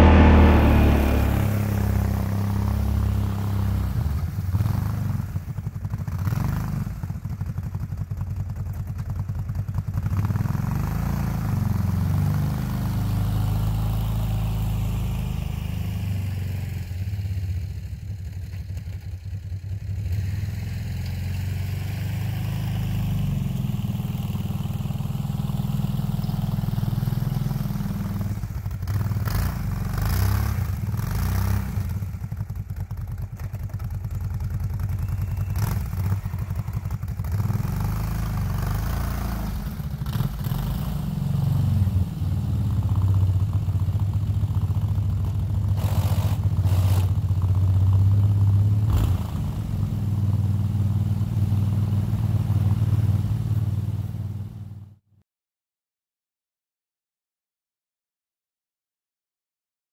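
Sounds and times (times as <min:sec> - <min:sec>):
atv engine revving: 0:00.0 - 0:17.9, 0:19.9 - 0:54.9.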